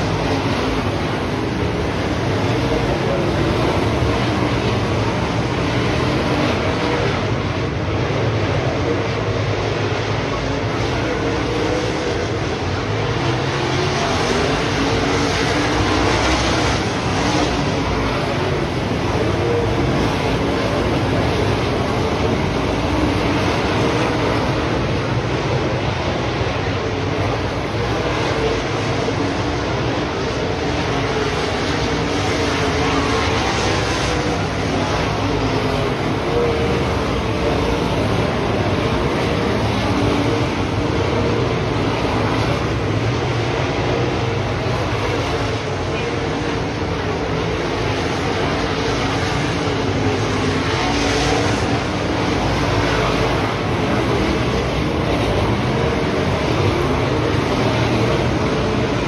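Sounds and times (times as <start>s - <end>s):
race car engines roaring: 0.0s - 59.0s.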